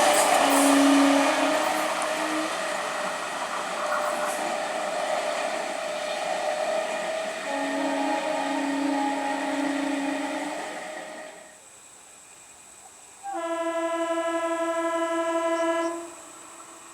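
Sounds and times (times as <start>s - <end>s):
train horn held tone: 0.0s - 11.6s, 13.2s - 16.9s
train running with rumbling hiss: 0.0s - 16.9s.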